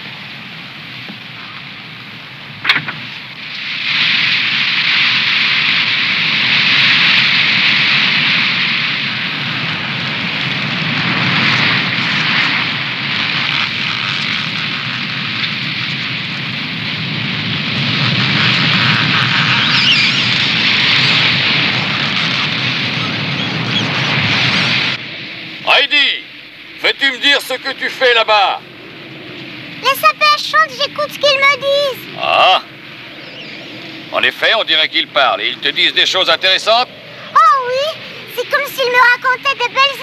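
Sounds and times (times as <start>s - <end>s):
wind rushing through trees: 0.0s - 40.0s.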